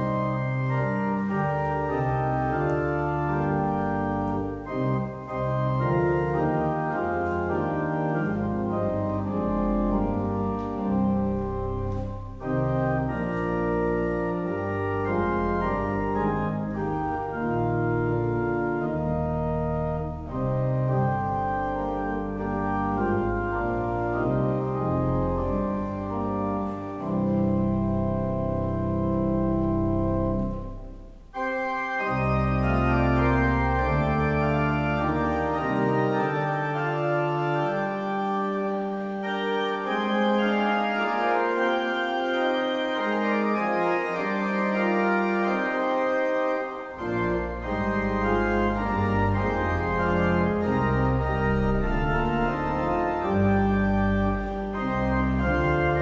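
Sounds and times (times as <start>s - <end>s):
pipe organ playing chords: 0.0s - 56.0s.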